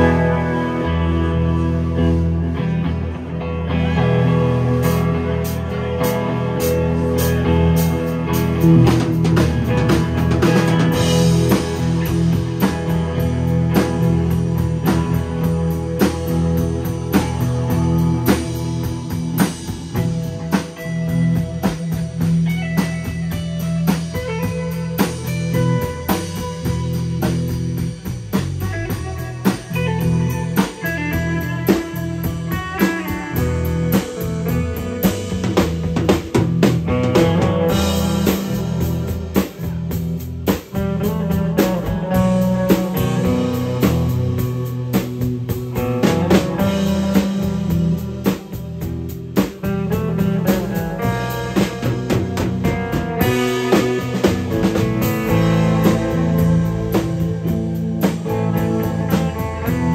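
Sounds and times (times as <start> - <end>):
drum kit playing: 0.0 - 59.9
electric guitar melody: 0.0 - 59.9.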